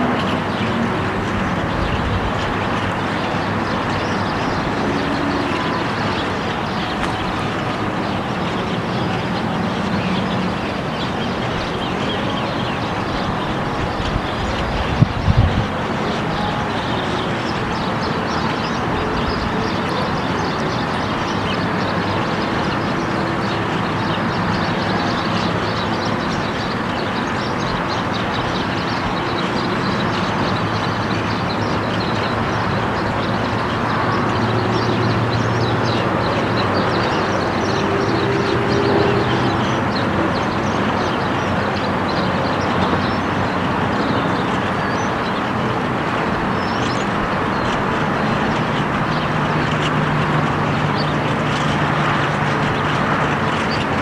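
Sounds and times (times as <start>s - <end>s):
flock of birds chattering: 0.0s - 54.0s.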